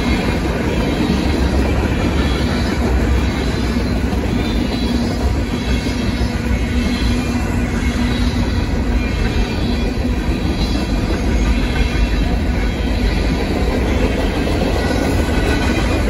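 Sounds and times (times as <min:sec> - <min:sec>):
freight train wheels rumbling and clacking: 0:00.0 - 0:16.0.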